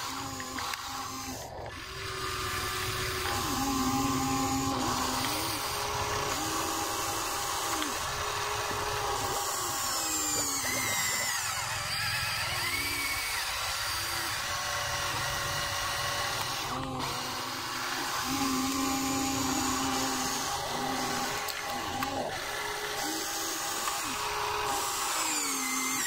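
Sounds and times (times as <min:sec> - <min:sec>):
toy excavator electric motors whining: 0:00.0 - 0:26.0.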